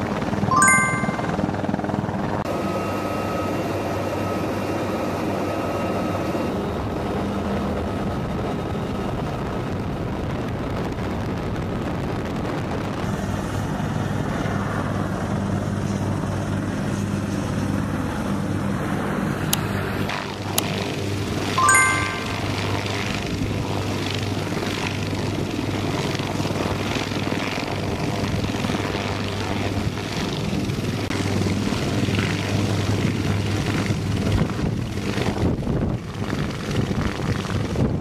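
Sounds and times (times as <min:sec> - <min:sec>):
helicopter engines and rotor drone: 0:00.0 - 0:38.0.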